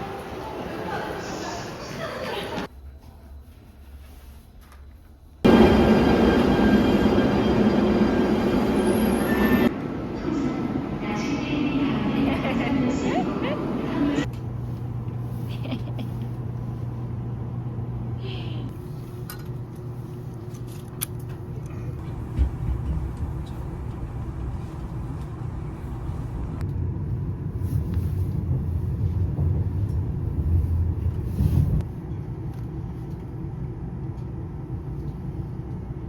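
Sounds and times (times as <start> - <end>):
train rumbling inside carriage: 0.0 - 20.6, 21.3 - 36.0.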